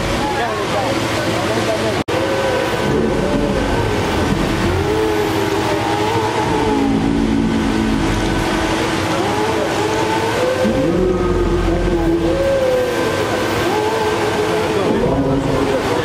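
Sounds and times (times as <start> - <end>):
engines and hydraulics rumbling: 0.0 - 16.0.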